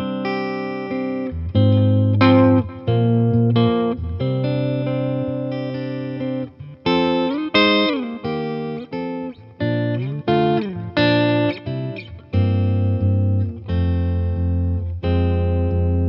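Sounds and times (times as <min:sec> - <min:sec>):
electric guitar playing: 0:00.0 - 0:16.0.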